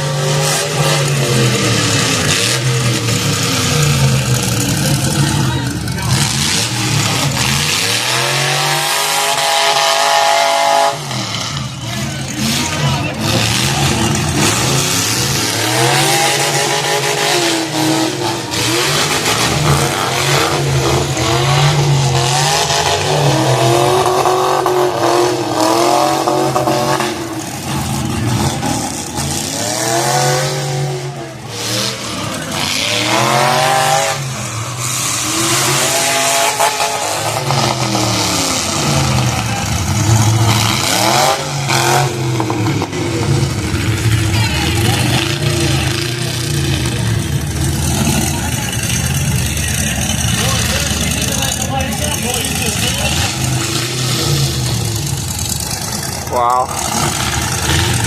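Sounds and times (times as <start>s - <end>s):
car engines revving hard: 0.0s - 58.0s
crowd noise: 0.0s - 58.0s.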